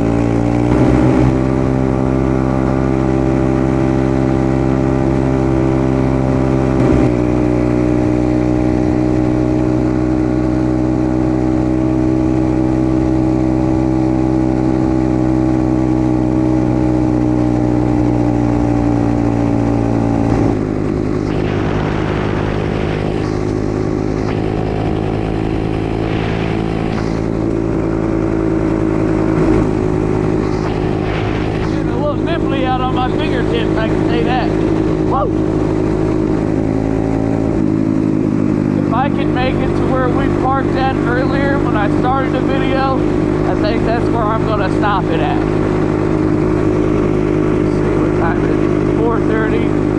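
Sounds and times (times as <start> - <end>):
dirt bike engine running: 0.0 - 49.9.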